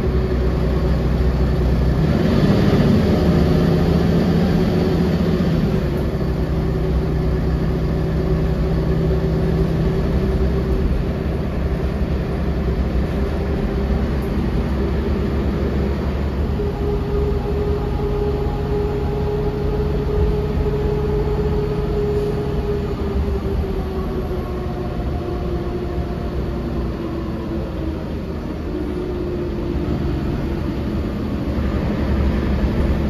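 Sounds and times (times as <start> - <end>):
bus diesel engine humming: 0.0 - 33.0.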